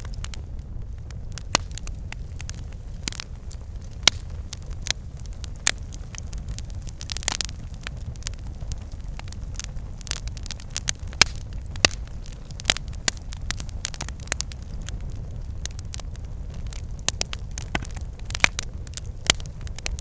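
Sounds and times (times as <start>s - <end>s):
campfire crackling: 0.0s - 20.0s
low fire rumble: 0.0s - 20.0s.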